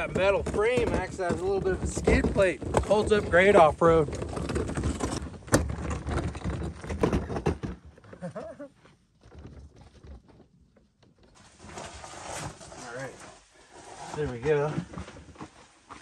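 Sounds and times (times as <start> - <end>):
wheels and metal frame rattling: 0.0 - 16.0.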